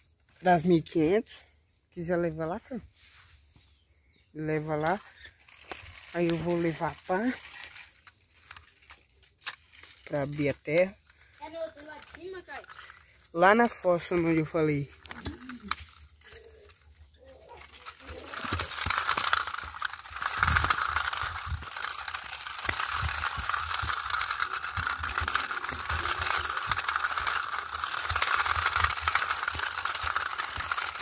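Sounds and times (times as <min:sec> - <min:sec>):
toy wheel loader scraping dirt: 0:04.4 - 0:31.0.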